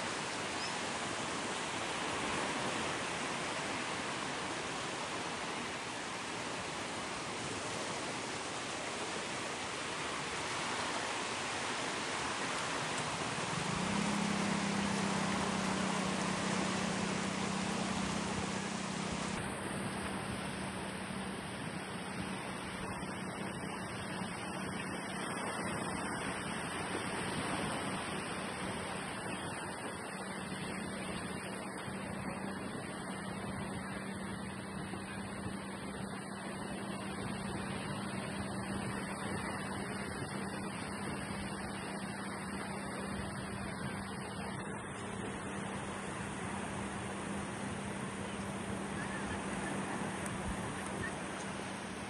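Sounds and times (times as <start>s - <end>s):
low engine-like hum: 0.0s - 52.0s
sea surf washing on beach: 0.0s - 52.0s.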